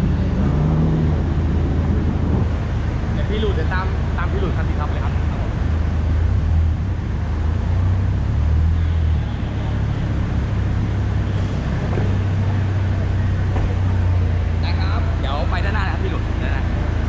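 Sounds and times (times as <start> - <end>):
car engine rumble: 0.0 - 17.0
road noise hiss: 0.0 - 17.0.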